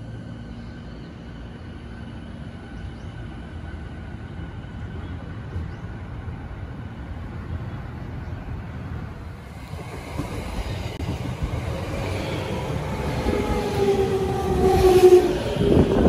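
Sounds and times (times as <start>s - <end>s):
electric train rumbling on rails: 0.0s - 16.0s.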